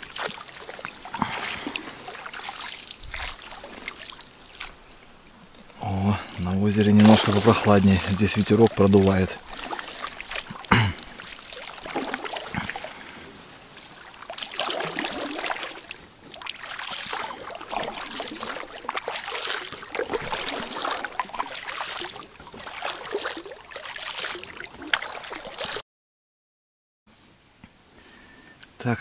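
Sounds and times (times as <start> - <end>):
paddle strokes in water: 0.0 - 25.8.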